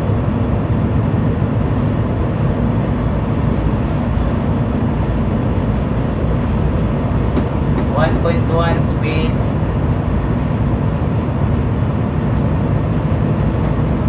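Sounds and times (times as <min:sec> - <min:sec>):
ship engine rumble: 0:00.0 - 0:14.0.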